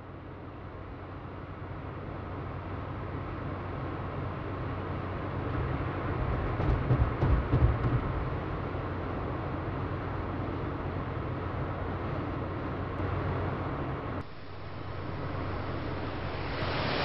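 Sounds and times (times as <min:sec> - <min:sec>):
car road and engine rumble: 0:01.7 - 0:17.0.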